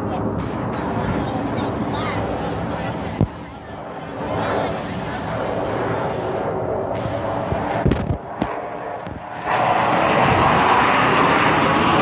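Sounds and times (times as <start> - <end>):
jet passing overhead: 0.0 - 12.0.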